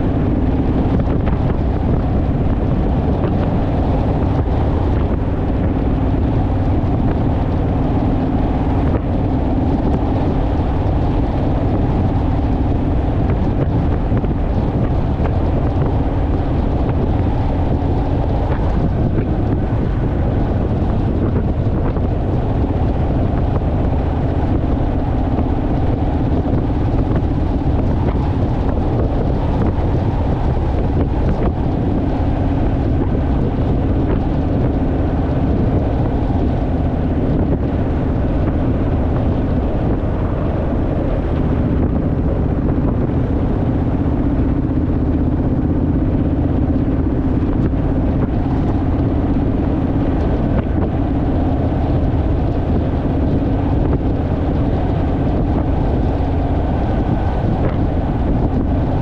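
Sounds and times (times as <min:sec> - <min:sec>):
motorcycle engine cruising: 0:00.0 - 0:59.0
wind buffeting microphone: 0:00.0 - 0:59.0.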